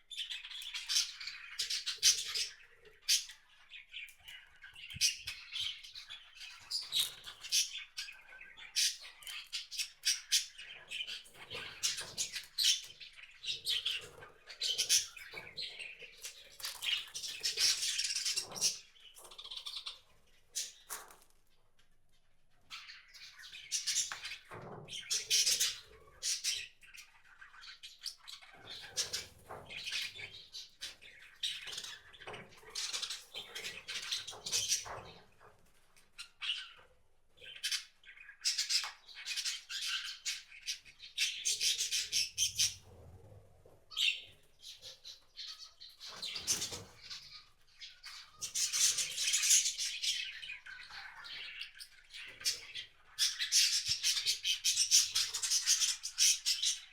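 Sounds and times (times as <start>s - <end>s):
small birds chirping and squawking: 0.0s - 56.9s.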